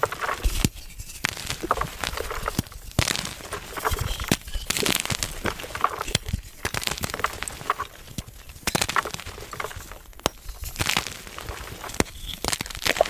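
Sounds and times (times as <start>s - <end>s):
chalk crunching and cracking: 0.0s - 13.0s.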